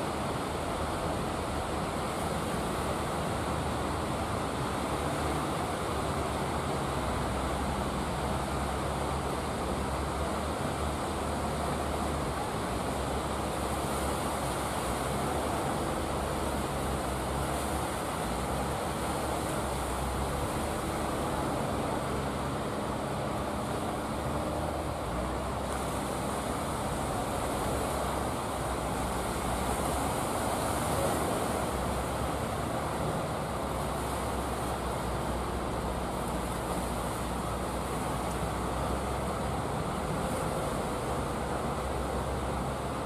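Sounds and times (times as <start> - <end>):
boat engine droning: 0.0 - 43.0
surf breaking on shore: 0.0 - 43.0.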